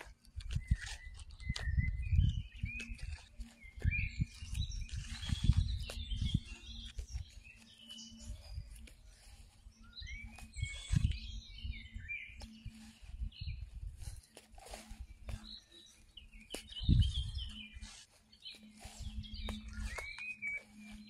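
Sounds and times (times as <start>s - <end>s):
small songbirds chirping: 0.0s - 21.0s.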